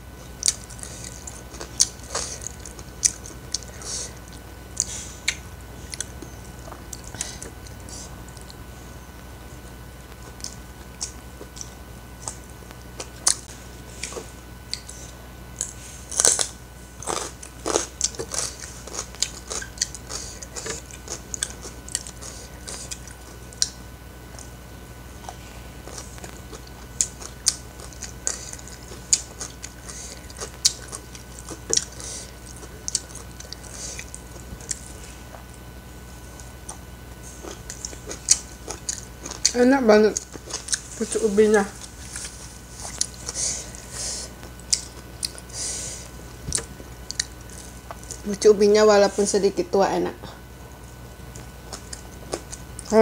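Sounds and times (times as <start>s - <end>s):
faint low hum: 0.0s - 53.0s
person chewing food: 0.2s - 39.6s, 40.2s - 48.3s, 50.4s - 52.9s.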